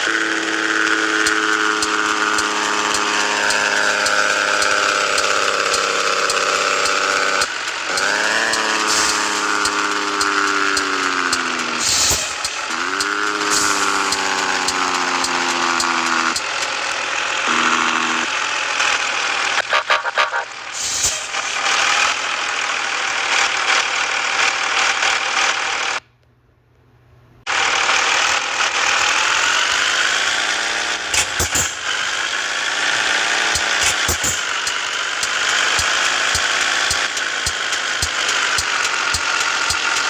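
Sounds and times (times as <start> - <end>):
truck engine revving under load: 0.0 - 26.0, 27.5 - 40.0.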